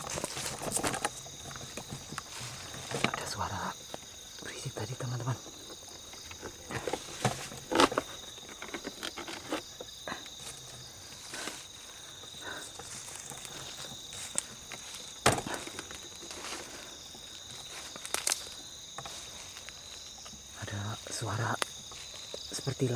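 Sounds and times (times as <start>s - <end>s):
rustling crackles in dry leaves: 0.0s - 4.0s, 6.4s - 22.9s
night insects chirping: 0.0s - 22.9s.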